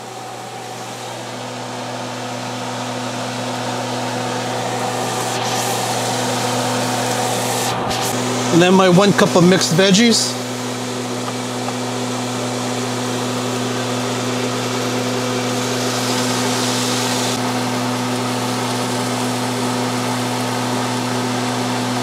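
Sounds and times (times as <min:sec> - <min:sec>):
exhaust fan humming: 0:00.0 - 0:22.0.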